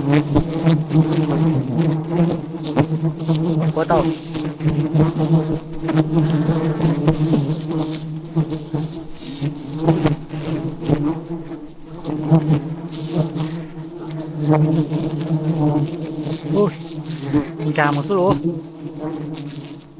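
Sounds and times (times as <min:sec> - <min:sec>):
bees buzzing: 0:00.0 - 0:19.9.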